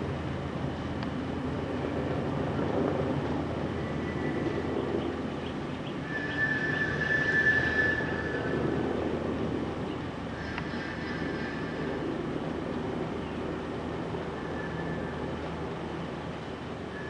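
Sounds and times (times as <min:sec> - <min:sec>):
helicopter engine and rotor rumble: 0:00.0 - 0:17.0
high steady whine: 0:00.0 - 0:17.0.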